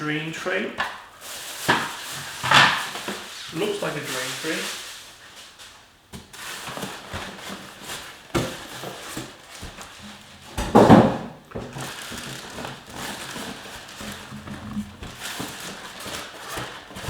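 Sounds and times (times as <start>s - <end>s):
styrofoam and cardboard rubbing: 1.2s - 5.6s, 6.3s - 10.8s, 11.5s - 17.0s.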